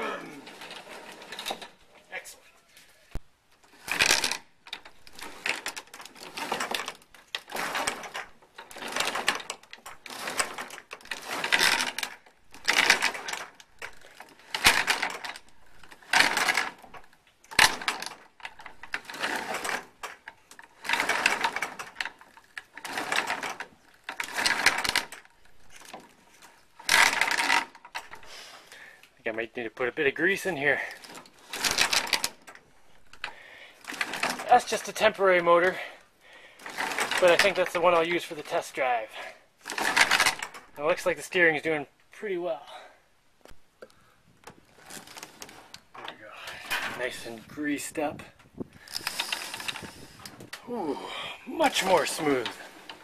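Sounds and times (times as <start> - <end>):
steering gear creaking: 0.0 - 2.0, 3.5 - 28.3, 30.2 - 38.9, 39.5 - 41.3, 43.4 - 53.0.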